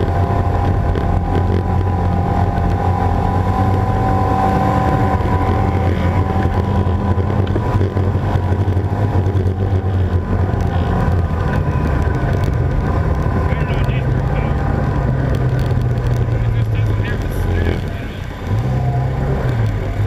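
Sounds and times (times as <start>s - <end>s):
off-road vehicle engine running: 0.0s - 20.0s.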